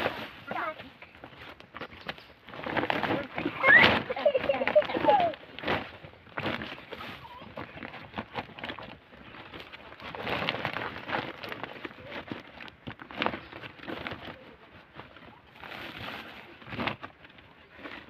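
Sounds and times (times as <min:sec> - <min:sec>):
dirt and rocks crunching: 0:00.0 - 0:18.0
plastic sack rustling: 0:00.0 - 0:18.0.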